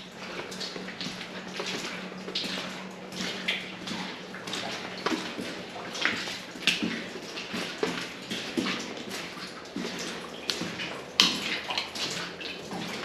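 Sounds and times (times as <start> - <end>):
footsteps splashing through water: 0.0 - 13.0.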